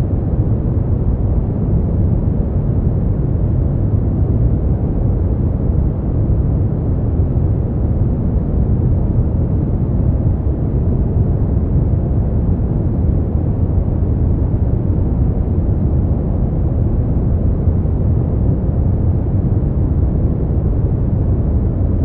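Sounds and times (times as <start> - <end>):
deep rumbling brown noise: 0.0 - 22.0.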